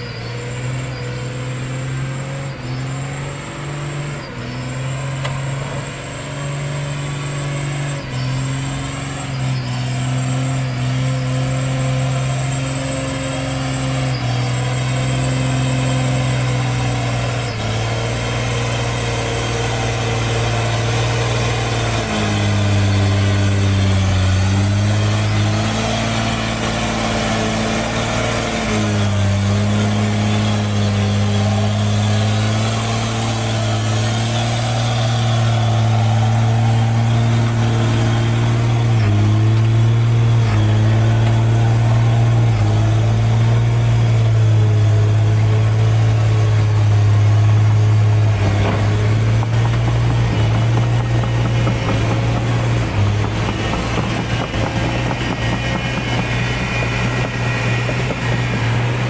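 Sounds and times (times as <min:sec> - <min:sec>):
diesel truck engine under load: 0:00.0 - 0:59.0.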